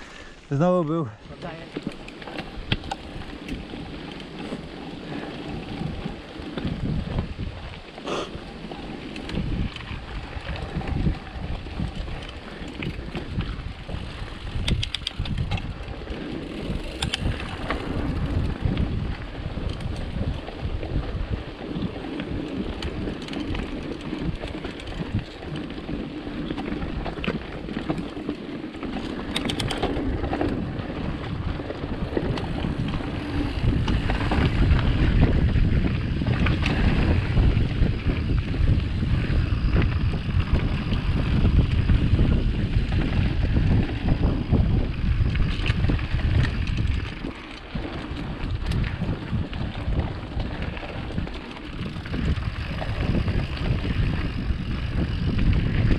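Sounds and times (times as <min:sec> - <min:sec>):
bike rattles and clicks: 0:00.0 - 0:55.9
bike tyres rumbling on dirt: 0:00.0 - 0:55.9
wind buffeting microphone: 0:01.4 - 0:55.9.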